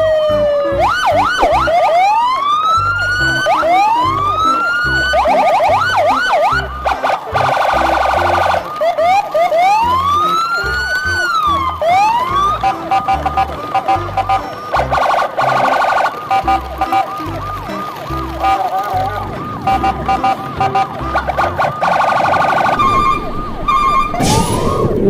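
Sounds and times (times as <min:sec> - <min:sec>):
electronic siren wails: 0:00.0 - 0:25.0.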